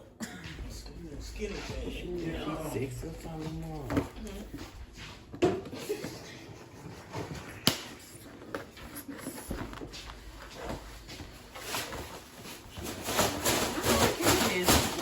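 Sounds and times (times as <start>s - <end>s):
rustling and handling noises: 0.5s - 15.0s.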